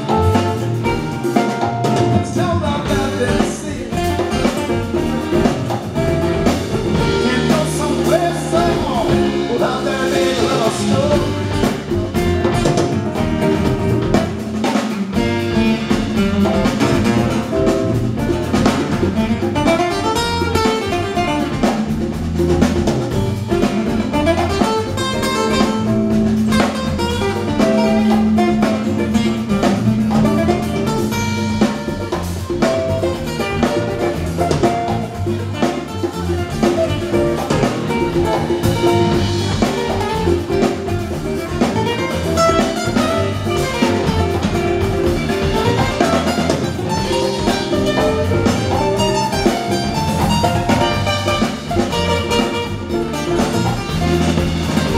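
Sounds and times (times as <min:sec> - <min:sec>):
acoustic guitars strummed and picked: 0:00.0 - 0:54.9
bass guitar: 0:00.0 - 0:54.9
hand drums: 0:00.0 - 0:54.9.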